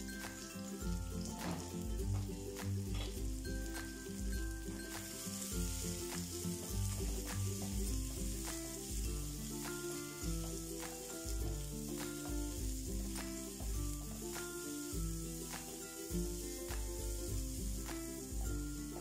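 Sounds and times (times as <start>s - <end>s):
background music with bass and beat: 0.0s - 19.0s
onions sizzling in hot oil: 0.0s - 19.0s
wooden spatula stirring in wok: 1.1s - 19.0s.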